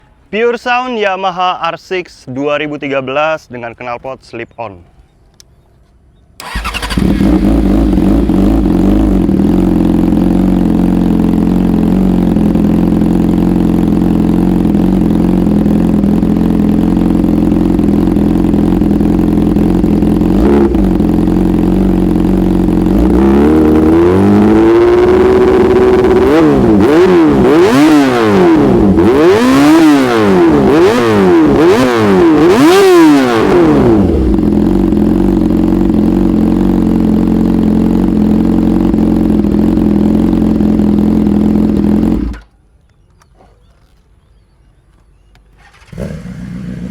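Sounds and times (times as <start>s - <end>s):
motorcycle engine idling and revving: 6.4s - 46.9s.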